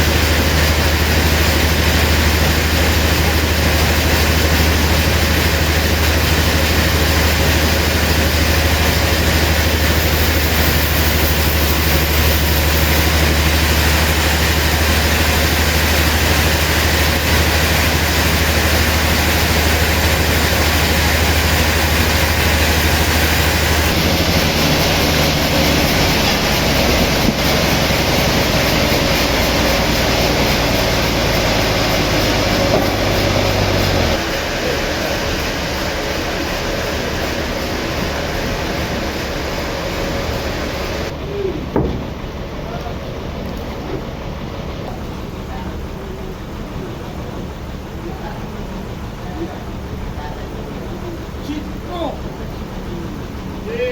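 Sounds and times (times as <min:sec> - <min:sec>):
deep constant hum: 0:00.0 - 0:53.9
sawmill machinery running: 0:00.0 - 0:53.9.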